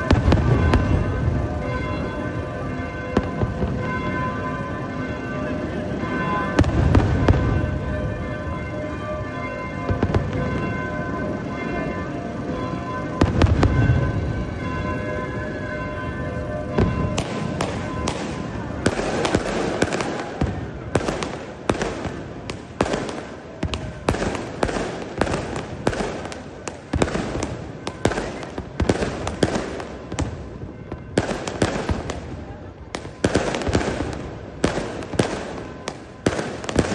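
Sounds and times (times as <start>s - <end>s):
fireworks and firecrackers banging: 0.0s - 36.9s.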